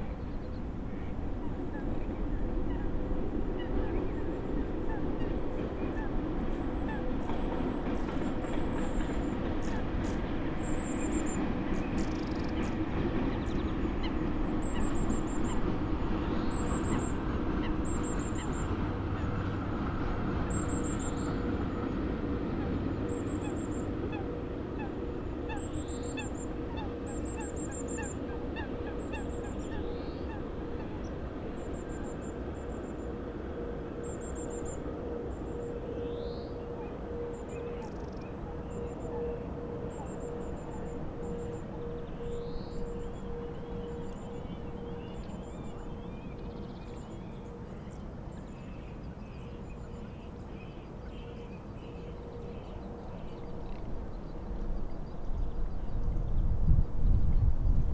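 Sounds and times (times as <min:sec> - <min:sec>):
train rumble: 0:00.0 - 0:57.9
wind and water noise: 0:00.0 - 0:57.9.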